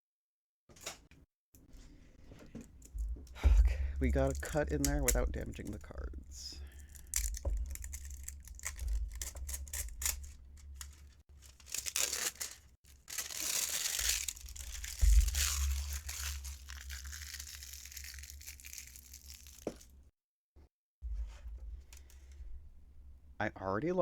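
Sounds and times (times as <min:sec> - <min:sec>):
plastic wrap crinkling: 0:01.8 - 0:20.1, 0:21.7 - 0:23.4.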